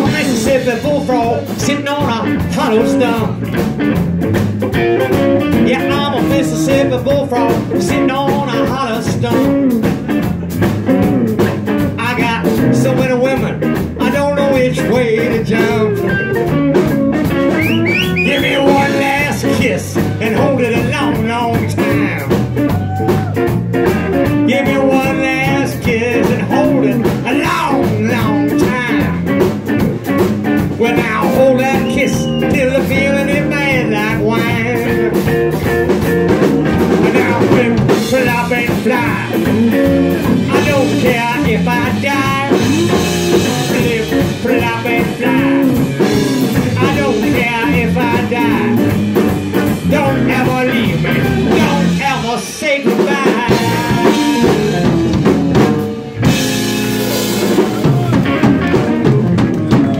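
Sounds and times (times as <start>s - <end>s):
blues-rock band playing: 0.0s - 59.9s
lead guitar bent notes: 2.1s - 22.7s, 23.4s - 52.0s, 53.5s - 59.9s.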